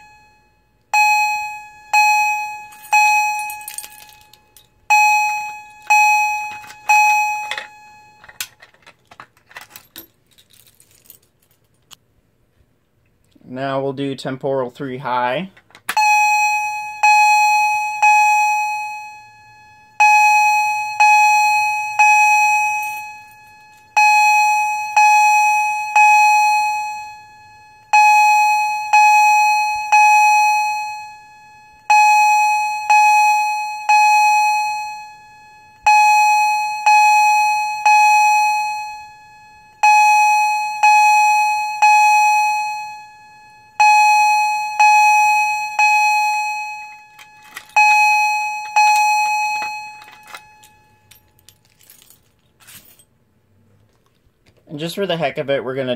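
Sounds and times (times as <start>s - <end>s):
fire alarm chime: 0.0s - 8.8s, 15.9s - 52.0s.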